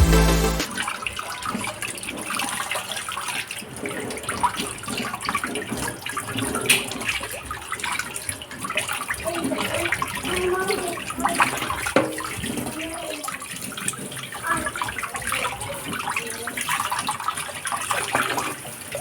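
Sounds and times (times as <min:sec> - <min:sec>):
tap water running into sink: 0:01.5 - 0:19.0.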